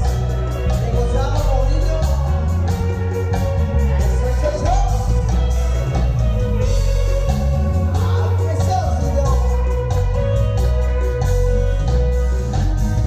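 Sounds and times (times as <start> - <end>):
live band dance music: 0.0 - 13.0.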